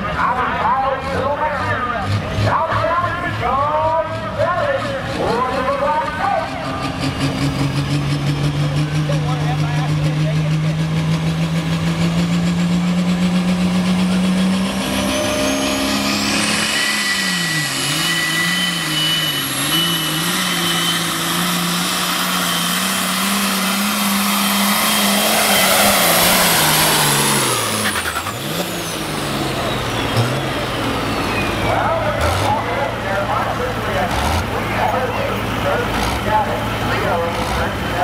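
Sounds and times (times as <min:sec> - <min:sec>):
high turbo whine: 0:00.0 - 0:38.0
tractor diesel engine under load: 0:00.0 - 0:38.0.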